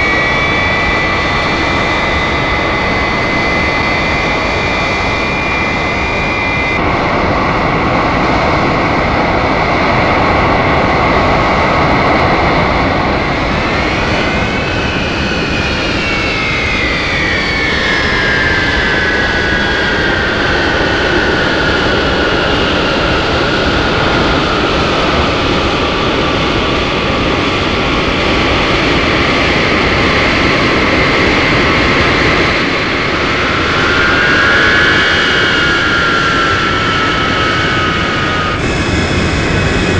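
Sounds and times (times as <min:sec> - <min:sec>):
jet engine noise with whine: 0:00.0 - 0:39.9.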